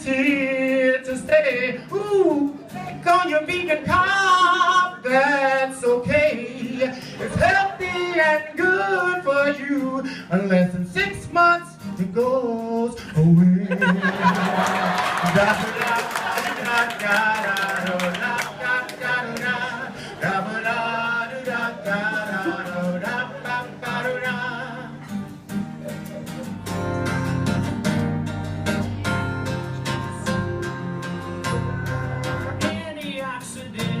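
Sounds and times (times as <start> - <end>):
person singing: 0.0 - 14.1, 14.8 - 27.2, 28.7 - 34.0
strummed acoustic guitar: 0.0 - 34.0.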